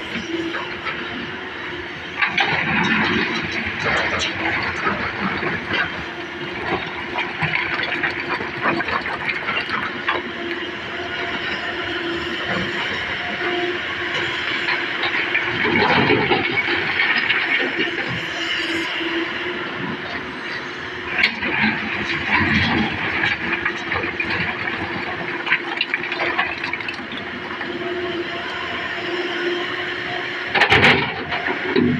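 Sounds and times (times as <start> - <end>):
excavator engine humming: 0.0 - 31.9.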